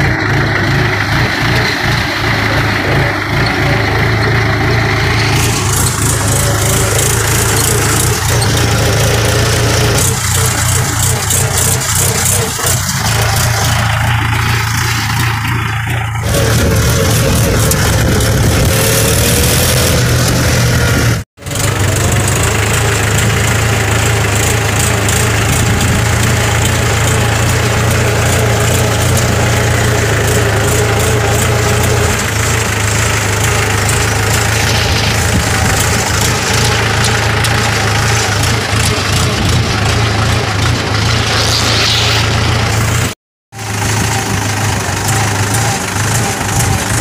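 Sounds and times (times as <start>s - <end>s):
tractor diesel engine droning: 0.0s - 47.0s.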